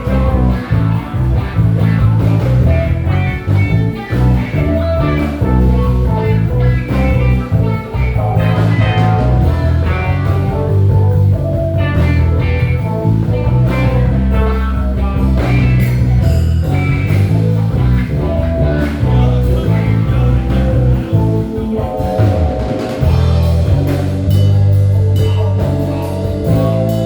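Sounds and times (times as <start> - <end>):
drum kit: 0.0 - 27.0
electric guitar lines: 0.0 - 27.0
heavy bass: 0.0 - 27.0.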